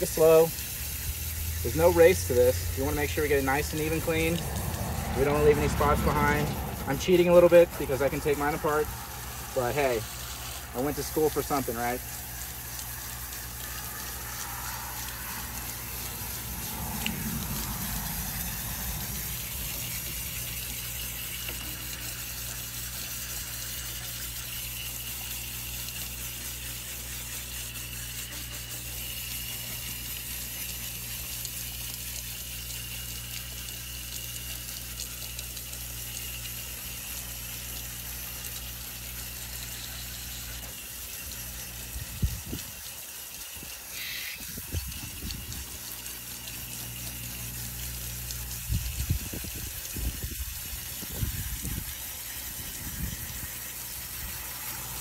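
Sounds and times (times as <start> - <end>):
garden hose spraying on metal fins: 0.0 - 55.0.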